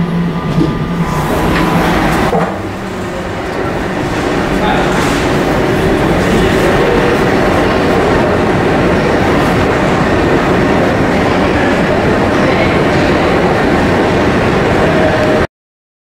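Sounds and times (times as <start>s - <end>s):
train rumbling past: 0.0s - 15.5s.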